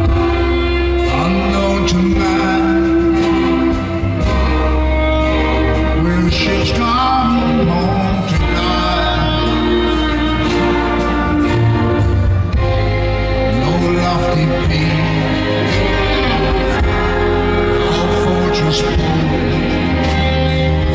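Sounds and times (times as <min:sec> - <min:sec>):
drums: 0:00.0 - 0:20.9
electric guitars: 0:00.0 - 0:20.9
keyboards: 0:00.0 - 0:20.9
person singing: 0:00.0 - 0:20.9.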